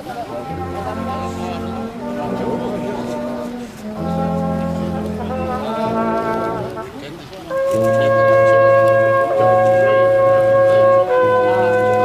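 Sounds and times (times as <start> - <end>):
wind instruments playing held chords: 0.0 - 12.0.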